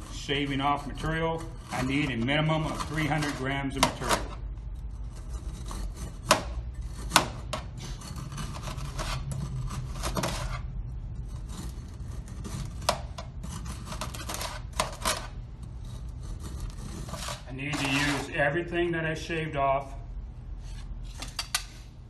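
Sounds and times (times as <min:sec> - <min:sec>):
metal edge scraping soil: 0:00.0 - 0:18.5.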